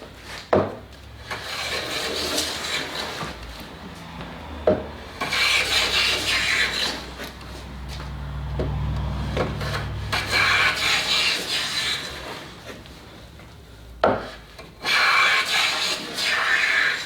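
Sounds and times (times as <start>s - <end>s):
hand plane rasping on board: 0.0s - 17.0s.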